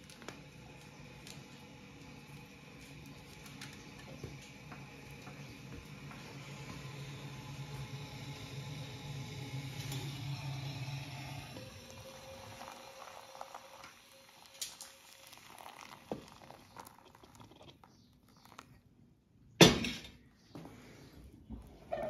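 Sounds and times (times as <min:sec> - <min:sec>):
hot water trickling onto coffee grounds: 0:00.0 - 0:19.0.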